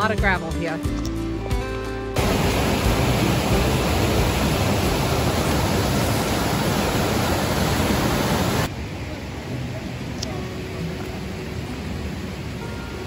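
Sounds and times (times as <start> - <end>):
stream water rushing: 2.2 - 13.0.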